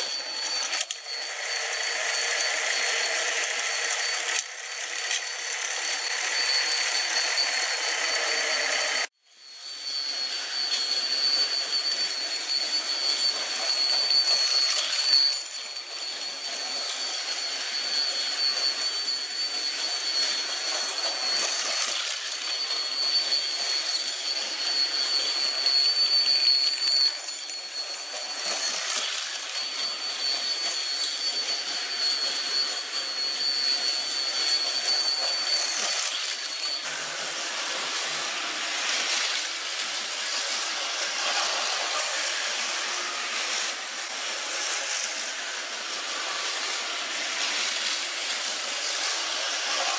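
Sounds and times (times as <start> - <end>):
toy slot car motor buzzing: 0.0 - 49.9.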